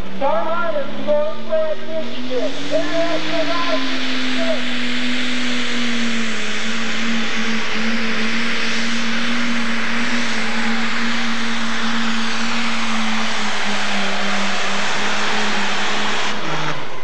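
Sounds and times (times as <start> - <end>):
heavy rushing noise: 0.0 - 17.0
tractor engine running flat out: 0.0 - 17.0.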